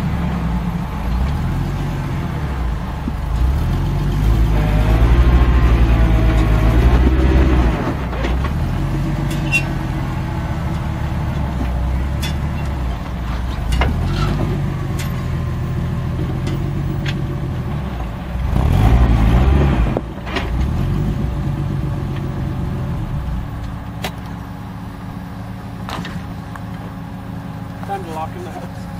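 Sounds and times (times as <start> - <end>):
engine running at low revs: 0.0 - 28.9.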